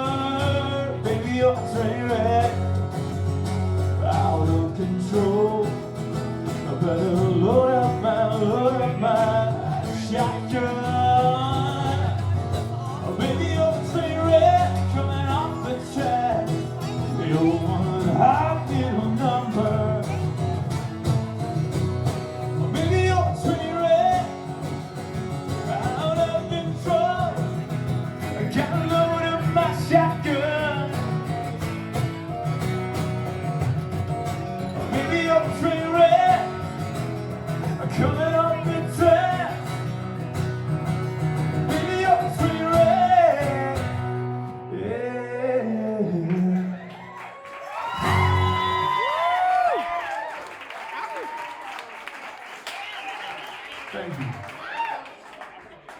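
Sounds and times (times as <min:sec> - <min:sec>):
country-rock band playing: 0:00.0 - 0:46.8, 0:47.7 - 0:50.0.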